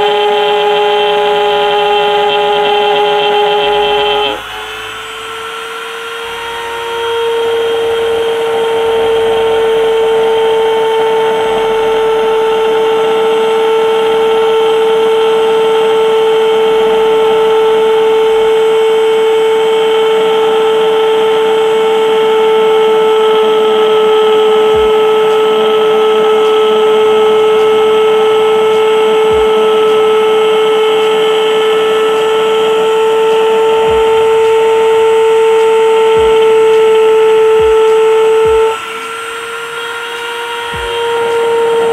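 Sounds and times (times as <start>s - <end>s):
mini grinder cutting plastic pipe: 0.0s - 41.9s.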